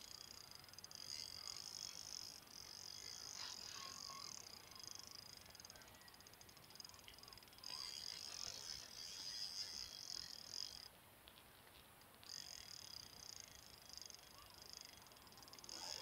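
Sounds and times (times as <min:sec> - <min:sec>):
spinning reel ticking: 0:00.0 - 0:10.9, 0:11.7 - 0:16.0.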